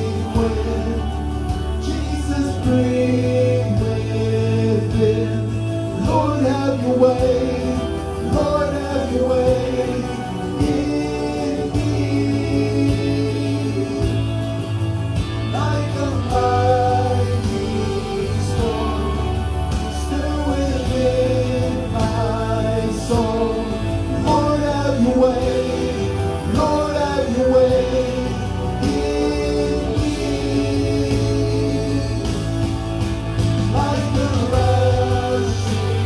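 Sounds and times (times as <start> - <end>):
band with low bass: 0.0 - 36.0.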